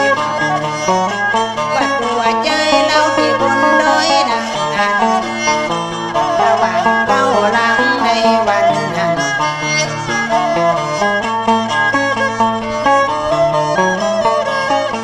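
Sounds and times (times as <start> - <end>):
bowed fiddle melody: 0.0 - 15.0
plucked lute: 0.0 - 15.0.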